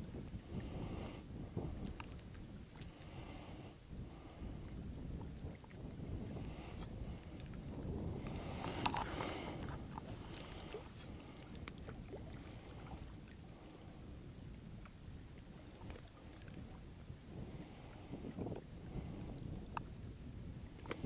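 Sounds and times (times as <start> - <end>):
waves lapping at rocks: 0.0 - 19.9
wind rumble on microphone: 0.0 - 21.0.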